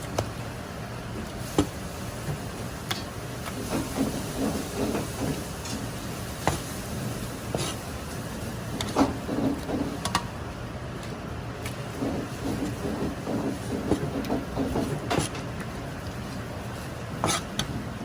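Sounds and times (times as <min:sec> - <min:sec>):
steady kitchen hiss: 0:00.0 - 0:18.0.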